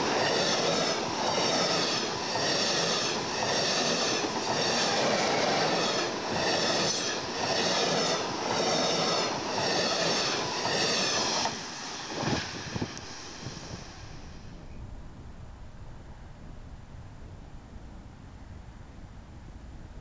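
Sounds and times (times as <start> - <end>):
train passing at speed: 0.0 - 17.2.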